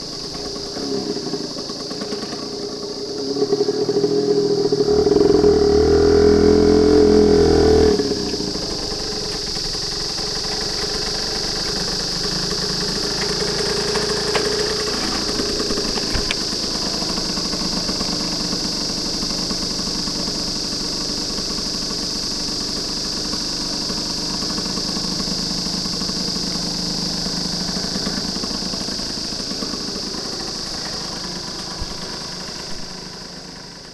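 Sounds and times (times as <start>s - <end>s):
high-pitched hiss: 0.0s - 33.9s
two-stroke engine idling: 0.0s - 33.9s.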